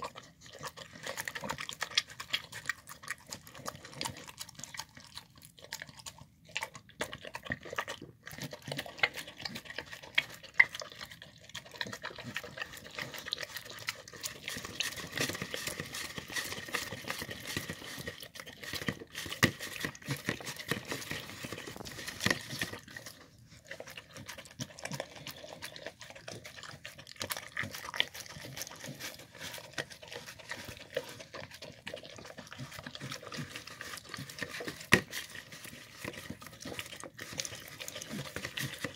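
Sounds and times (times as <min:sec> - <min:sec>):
dog licking wet food: 0:00.0 - 0:38.9.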